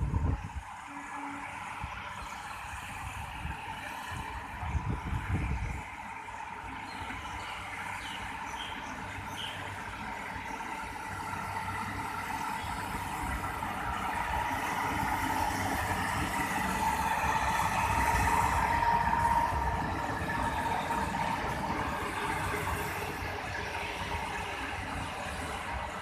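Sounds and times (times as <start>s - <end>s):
rail machinery engine whining: 0.0s - 26.0s.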